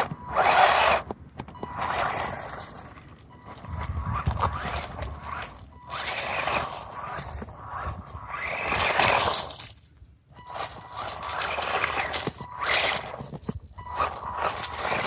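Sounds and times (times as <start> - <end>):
rc truck motor whine: 0.0 - 15.0
tyres scrabbling on dirt: 0.0 - 15.0.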